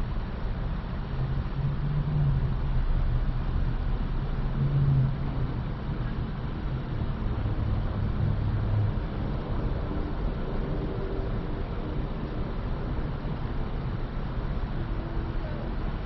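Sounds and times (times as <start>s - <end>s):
car engine rumbling from inside: 0.0s - 16.0s.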